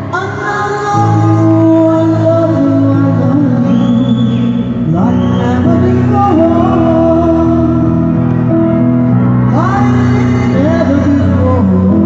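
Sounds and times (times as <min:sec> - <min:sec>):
woman singing a slow ballad: 0:00.0 - 0:08.3, 0:09.5 - 0:12.0
guitar accompaniment: 0:00.0 - 0:12.0.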